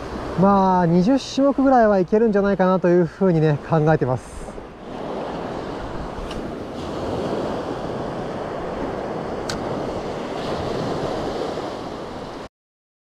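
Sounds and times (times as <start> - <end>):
small waves breaking on beach: 0.0 - 12.5
wind buffeting microphone: 0.0 - 12.5.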